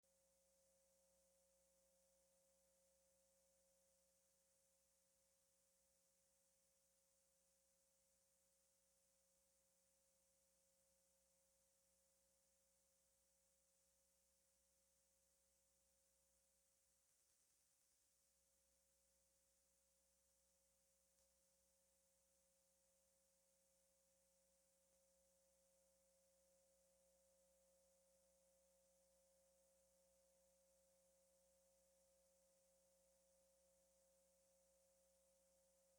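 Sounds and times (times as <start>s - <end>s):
faint steady tone: 0.0s - 35.9s.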